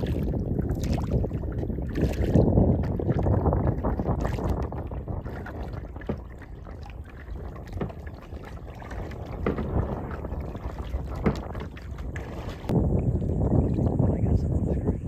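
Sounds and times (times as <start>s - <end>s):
water splashing off paddle: 0.0s - 13.9s
low rumble of moving water: 0.0s - 15.0s.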